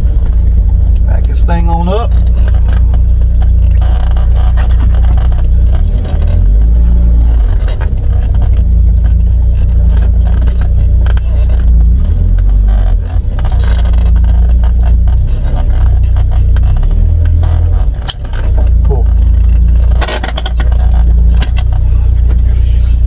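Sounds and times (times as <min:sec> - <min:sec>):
car engine running low: 0:00.0 - 0:23.0.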